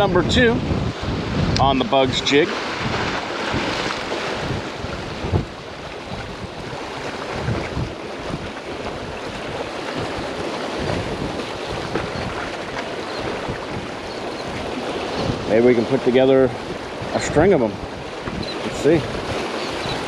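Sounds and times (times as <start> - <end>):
surf breaking over rocks: 0.0 - 20.0
wind buffeting microphone: 0.0 - 20.0.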